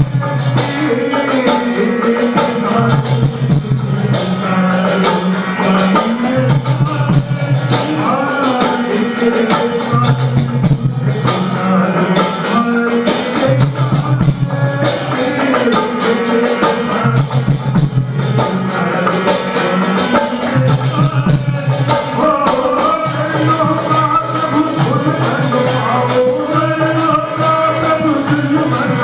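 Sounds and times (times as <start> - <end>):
devotional song melody: 0.0 - 29.0
quick percussion beat: 0.0 - 29.0.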